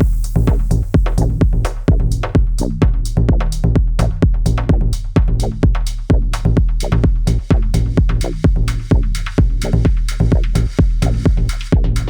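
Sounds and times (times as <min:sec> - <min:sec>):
electronic music with drum-machine beat: 0:00.0 - 0:12.0
sustained bass: 0:00.0 - 0:12.0.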